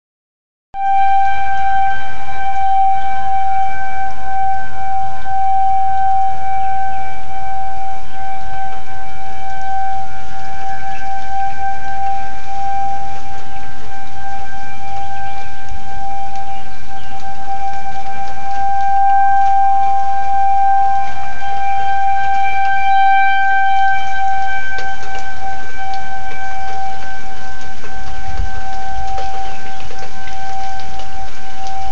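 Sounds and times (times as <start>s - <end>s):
tornado siren steady tone: 0.7s - 31.9s
low rumble: 1.0s - 31.9s.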